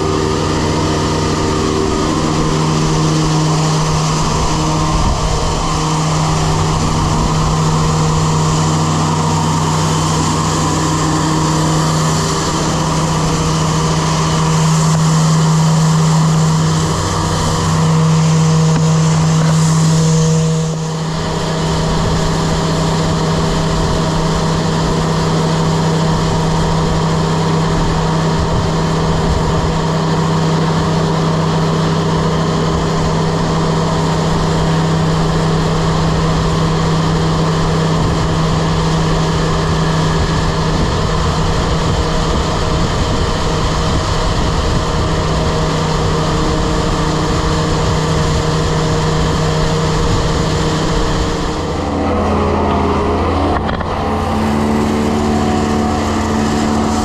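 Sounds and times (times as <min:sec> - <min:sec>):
grain vacuum running: 0:00.0 - 0:57.0.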